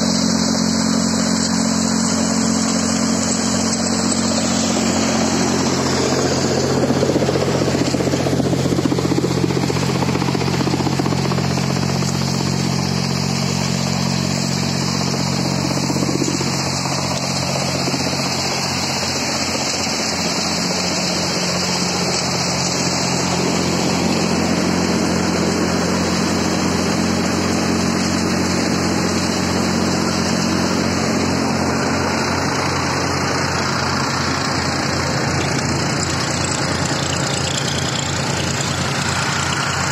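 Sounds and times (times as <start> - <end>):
diesel tractor engine humming: 0.0 - 39.9
thresher drum and blower whirring: 0.0 - 39.9.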